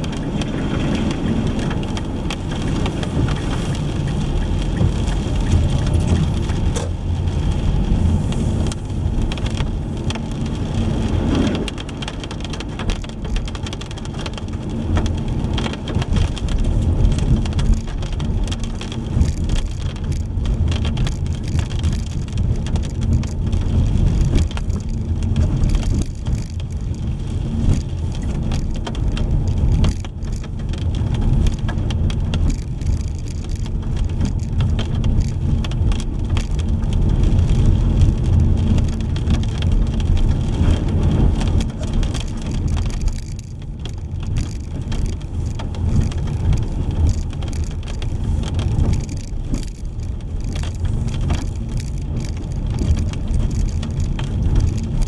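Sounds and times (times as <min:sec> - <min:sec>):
rain on a car: 0:00.0 - 0:55.0
raindrop ticks: 0:00.0 - 0:55.0
road and engine rumble: 0:00.0 - 0:55.0.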